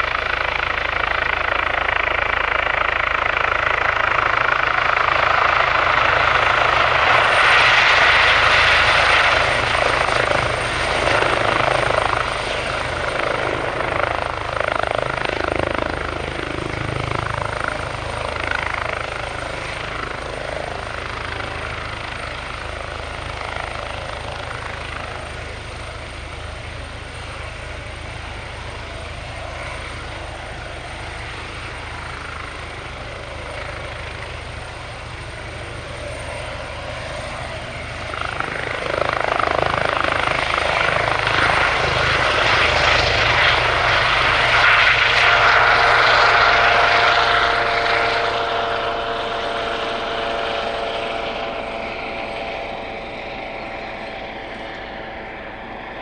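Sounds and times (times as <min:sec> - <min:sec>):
helicopter hovering: 0:00.0 - 0:56.0
helicopter whine: 0:00.0 - 0:56.0.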